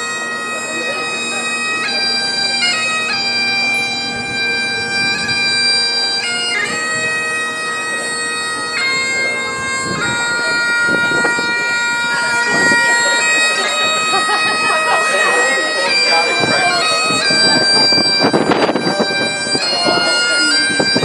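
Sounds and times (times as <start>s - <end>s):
bagpipes playing: 0.0s - 21.0s.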